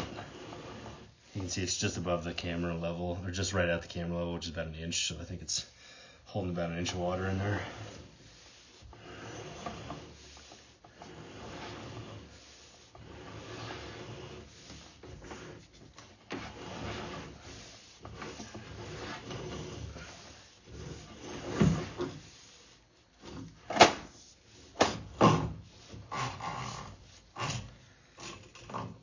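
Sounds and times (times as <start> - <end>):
rubbing and scraping: 0.0 - 5.3, 6.3 - 29.0.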